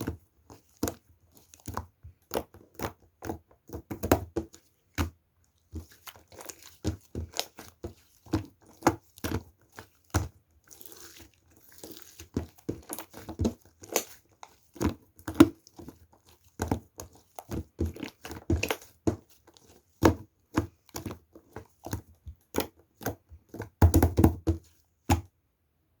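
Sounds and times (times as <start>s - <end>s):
objects tapping and crinkling: 0.0s - 25.3s.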